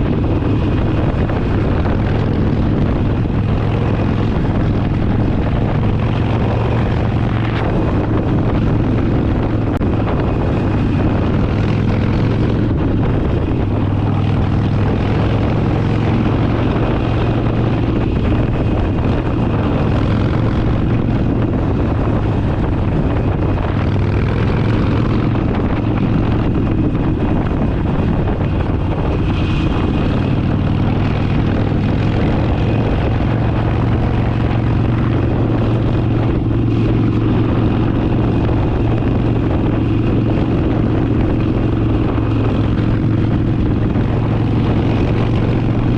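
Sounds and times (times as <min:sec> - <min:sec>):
motorcycle engine cruising: 0:00.0 - 0:45.9
wind rush on microphone: 0:00.0 - 0:45.9.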